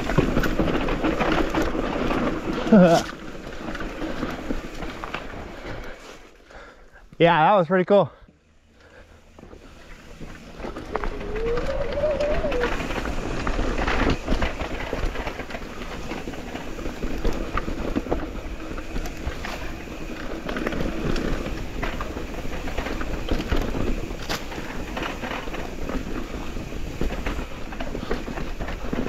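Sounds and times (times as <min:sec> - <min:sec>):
bike rattling over bumps: 0:00.0 - 0:07.6, 0:08.4 - 0:29.0
tyres rumbling on dirt: 0:00.0 - 0:29.0.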